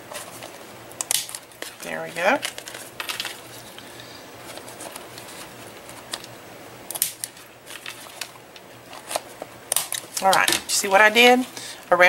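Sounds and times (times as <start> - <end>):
paper handling noise: 0.0 - 6.4, 7.0 - 11.6.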